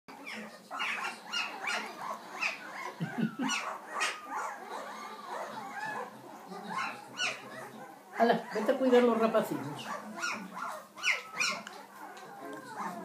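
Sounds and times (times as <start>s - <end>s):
puppies whimpering and squeaking: 0.1s - 13.0s.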